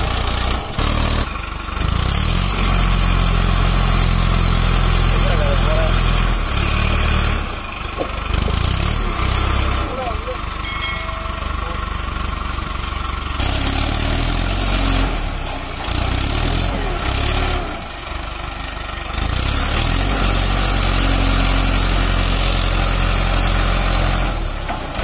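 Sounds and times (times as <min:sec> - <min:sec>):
diesel tractor engine revving: 0:00.0 - 0:25.0.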